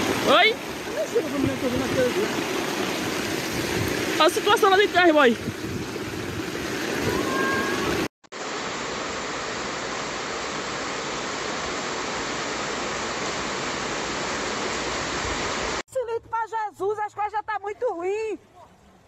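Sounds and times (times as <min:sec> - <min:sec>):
heavy rain pouring: 0:00.0 - 0:15.8.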